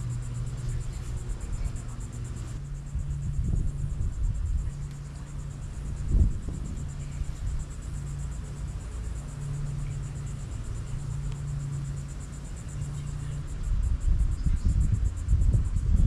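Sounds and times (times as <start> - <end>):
insects trilling: 0.0 - 16.0
low steady hum: 0.0 - 16.0.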